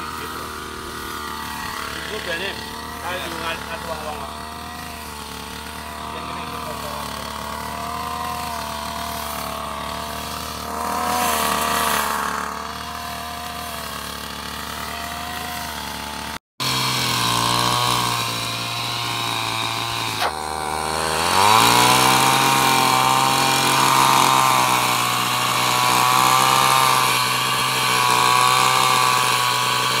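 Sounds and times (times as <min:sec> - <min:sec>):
brush cutter engine cutting grass: 0:00.0 - 0:30.0.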